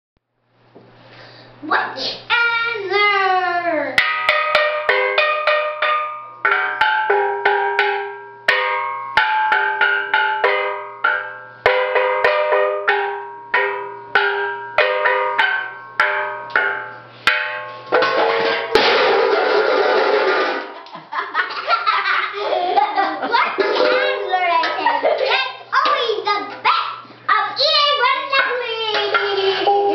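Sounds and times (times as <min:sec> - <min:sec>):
steel drum notes: 0:01.7 - 0:20.8, 0:22.3 - 0:29.9.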